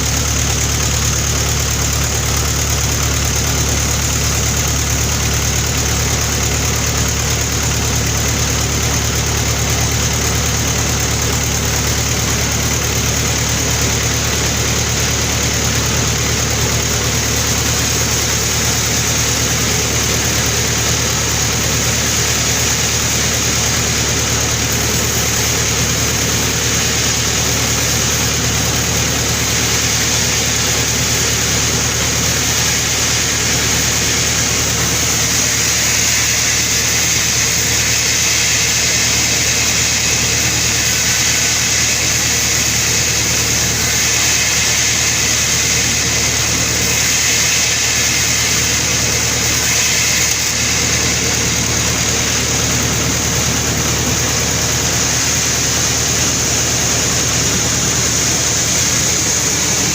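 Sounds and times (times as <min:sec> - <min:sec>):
sawmill machine drone: 0:00.0 - 0:59.9
high-pitched whine: 0:04.0 - 0:59.9.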